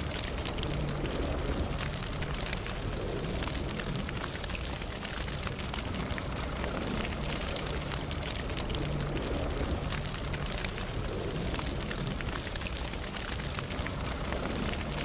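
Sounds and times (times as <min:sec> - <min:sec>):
burning wood crackling and popping: 0:00.0 - 0:15.0
low rush of flame: 0:00.0 - 0:15.0.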